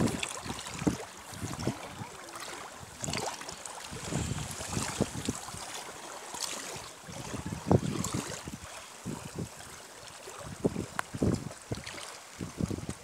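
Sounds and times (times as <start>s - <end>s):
wind buffeting microphone: 0.0s - 5.9s, 6.7s - 13.0s
water lapping among ice floes: 0.0s - 13.0s.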